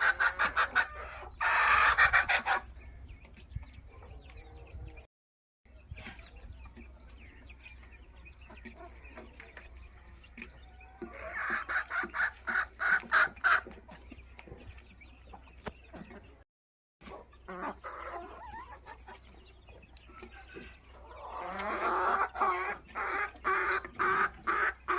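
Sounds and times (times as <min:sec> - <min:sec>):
chickens clucking: 0:00.0 - 0:05.1, 0:05.7 - 0:16.4, 0:17.0 - 0:24.9.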